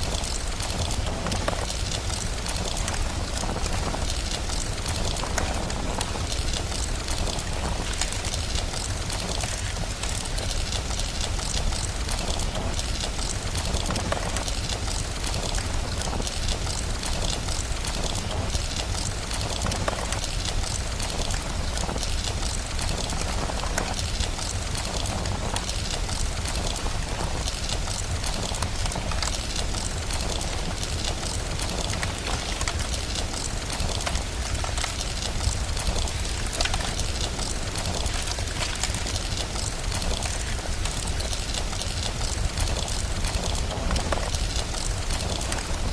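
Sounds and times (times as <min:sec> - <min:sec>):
fireplace crackling: 0:00.0 - 0:45.9
steady rain hiss: 0:00.0 - 0:45.9.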